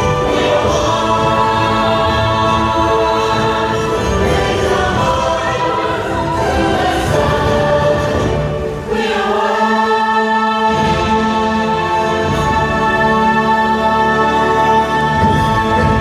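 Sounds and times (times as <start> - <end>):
choir singing sustained chords: 0.0 - 16.0
orchestral show music: 0.0 - 16.0.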